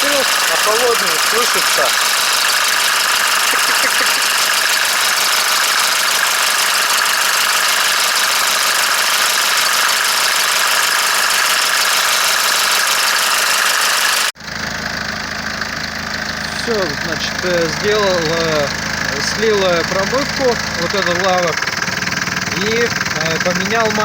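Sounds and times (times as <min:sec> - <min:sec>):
hydraulic lifters tapping: 0:00.0 - 0:13.4, 0:15.0 - 0:24.0
diesel engine idling: 0:00.0 - 0:24.0.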